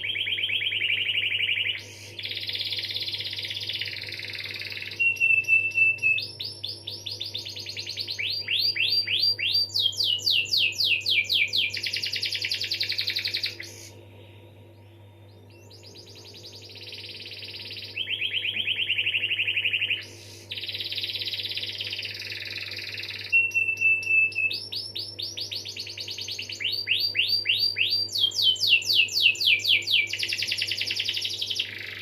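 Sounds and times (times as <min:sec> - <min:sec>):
canary singing trills: 0:00.0 - 0:32.0
faint low hum: 0:00.0 - 0:32.0.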